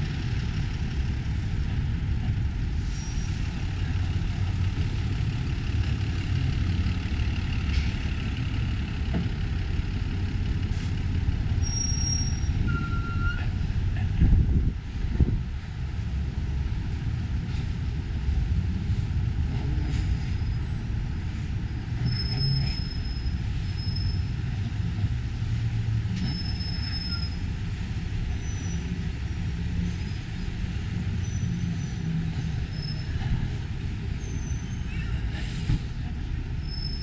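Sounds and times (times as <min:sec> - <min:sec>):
low rumble of street traffic: 0:00.0 - 0:37.0.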